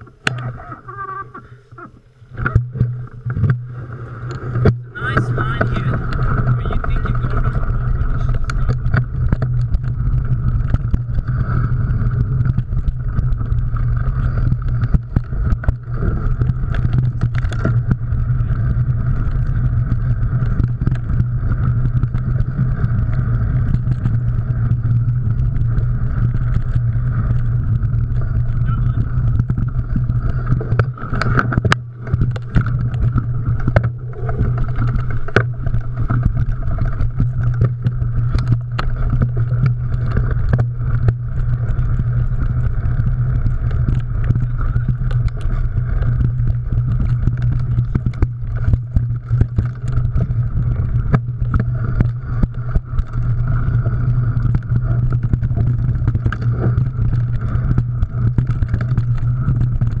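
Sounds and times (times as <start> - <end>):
rushing drone of riding: 0.0 - 60.0
bike rattling clicks and knocks: 4.3 - 60.0.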